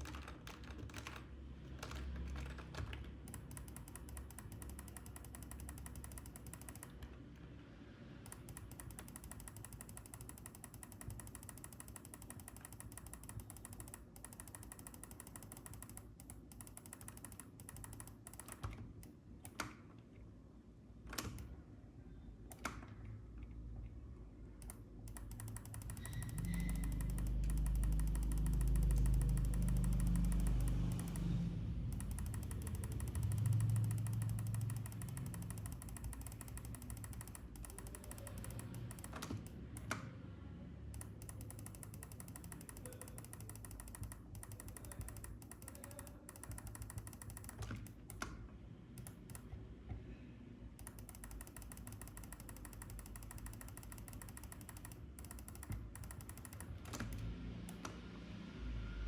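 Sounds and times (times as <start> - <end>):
computer mouse clicks: 0.0 - 7.1, 8.2 - 19.8, 21.1 - 21.6, 22.5 - 23.1, 24.6 - 40.1, 40.9 - 49.6, 50.8 - 58.0
keyboard clicks: 0.0 - 7.1, 8.2 - 19.8, 21.1 - 21.6, 22.5 - 23.0, 24.6 - 40.0, 41.0 - 49.6, 50.8 - 58.0.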